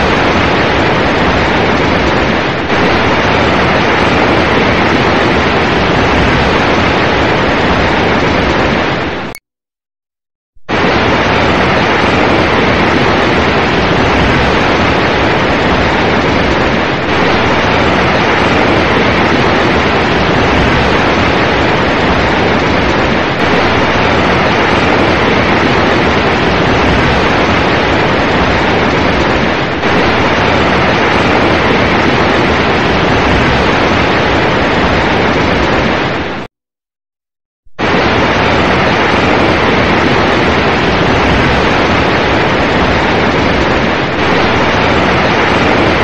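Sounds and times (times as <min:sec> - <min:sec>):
waterfall crashing: 0:00.0 - 0:09.3, 0:10.7 - 0:36.5, 0:37.8 - 0:46.0.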